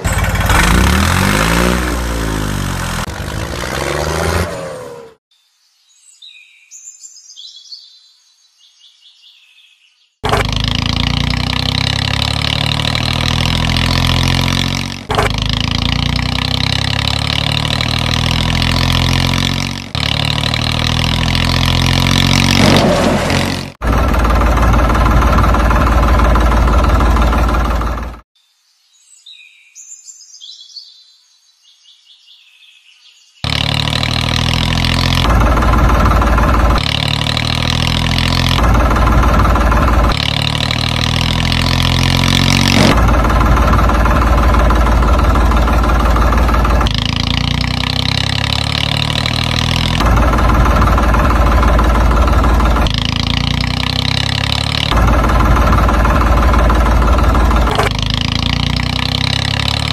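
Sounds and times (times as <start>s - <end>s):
tractor engine idling and revving: 0.0s - 5.3s, 10.2s - 28.3s, 33.4s - 59.9s.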